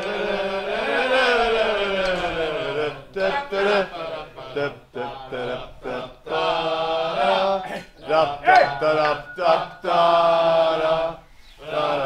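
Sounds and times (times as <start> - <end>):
men singing together: 0.0 - 12.0.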